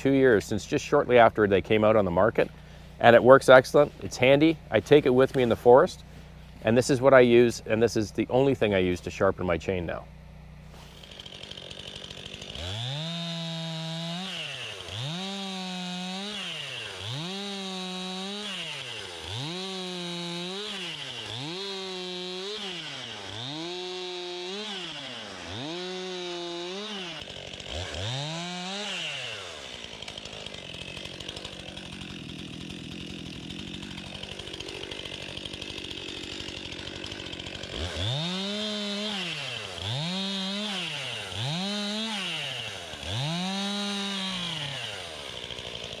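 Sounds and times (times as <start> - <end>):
chainsaw revving: 0.0 - 46.0.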